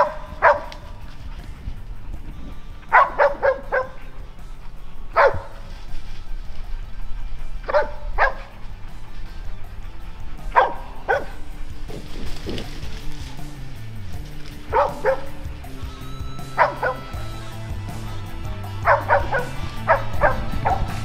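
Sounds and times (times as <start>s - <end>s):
dogs barking: 0.0s - 21.0s.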